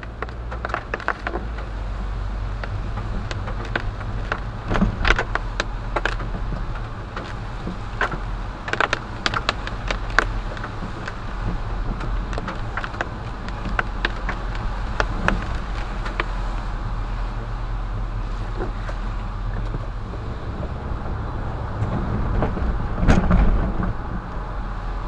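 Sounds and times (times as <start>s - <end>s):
car road and engine rumble: 0.0s - 25.0s
raindrops tapping on windshield: 0.0s - 25.0s.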